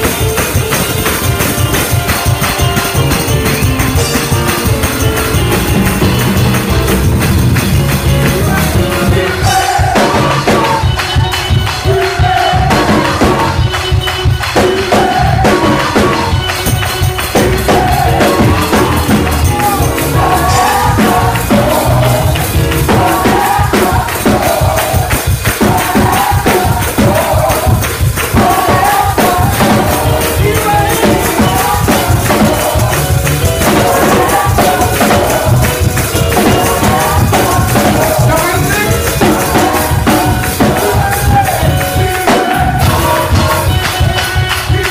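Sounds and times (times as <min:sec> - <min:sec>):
tambourine shaking: 0:00.0 - 0:09.9, 0:16.0 - 0:44.9
drum kit: 0:00.0 - 0:44.9
gospel choir singing: 0:00.0 - 0:44.9.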